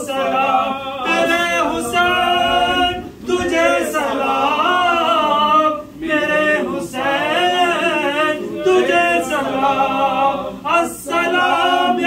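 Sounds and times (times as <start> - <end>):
men singing a cappella: 0.0 - 12.0.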